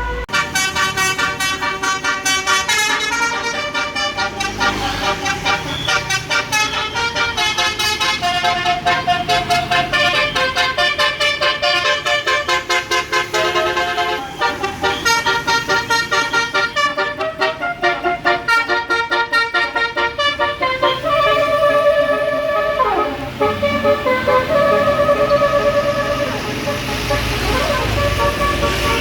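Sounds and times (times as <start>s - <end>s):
bus horn melody: 0.0s - 29.0s.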